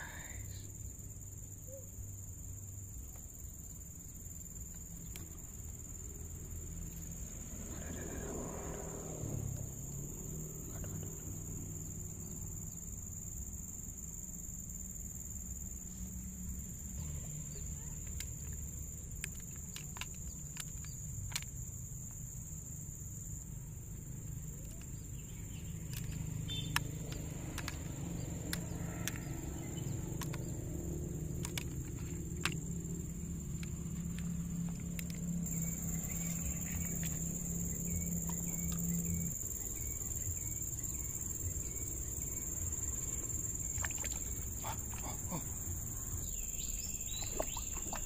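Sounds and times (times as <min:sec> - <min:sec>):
high-pitched insect drone: 0:00.0 - 0:48.0.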